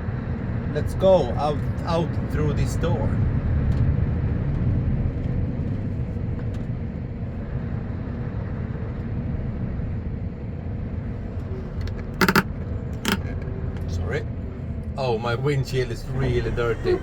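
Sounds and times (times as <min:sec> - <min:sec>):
truck engine at low revs: 0:00.0 - 0:17.0.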